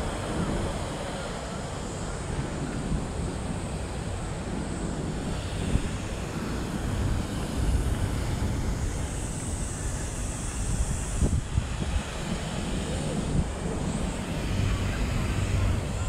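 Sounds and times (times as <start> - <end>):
traffic rumble: 0.0 - 16.0
wind buffeting microphone: 0.0 - 16.0.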